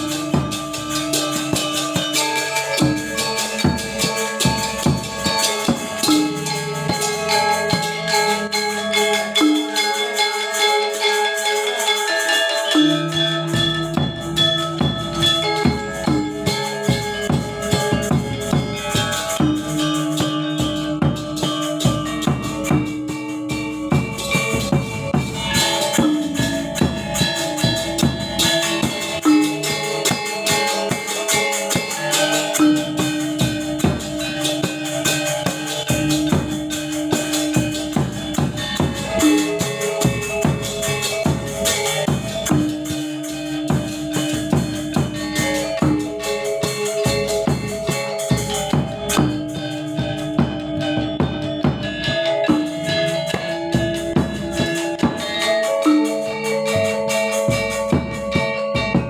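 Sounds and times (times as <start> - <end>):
gamelan ensemble playing: 0.0 - 59.0.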